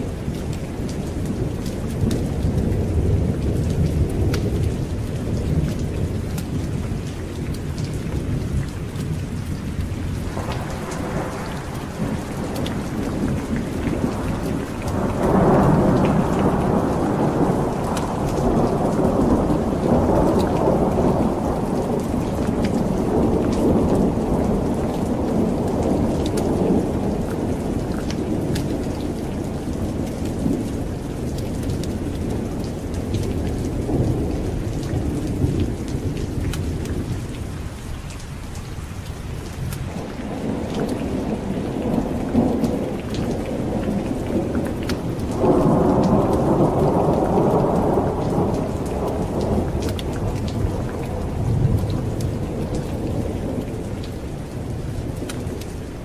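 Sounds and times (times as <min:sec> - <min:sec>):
thunder rumbling: 0:00.0 - 0:37.9, 0:38.9 - 0:56.0
heavy rain: 0:00.0 - 0:56.0.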